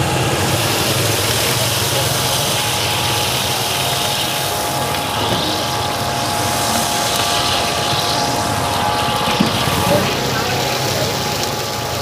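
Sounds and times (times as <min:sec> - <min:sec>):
constant mechanical hum: 0:00.0 - 0:12.0
food sizzling on a griddle: 0:00.0 - 0:12.0.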